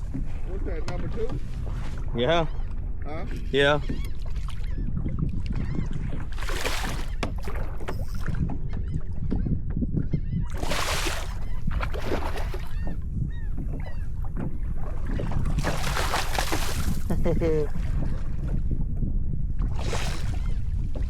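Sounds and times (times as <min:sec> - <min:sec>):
steady low rumble: 0:00.0 - 0:03.6, 0:07.4 - 0:21.0
water sloshing and splashing: 0:00.0 - 0:09.3, 0:10.5 - 0:18.6, 0:19.6 - 0:21.0.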